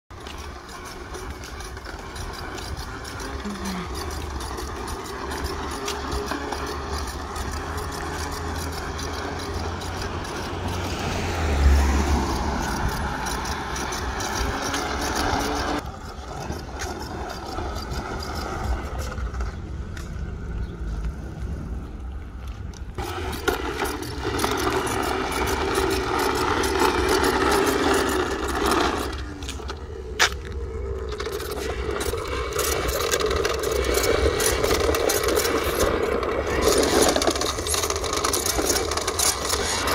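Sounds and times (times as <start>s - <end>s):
toy lawn mower rattling on pavement: 0.1s - 20.7s, 22.0s - 39.9s.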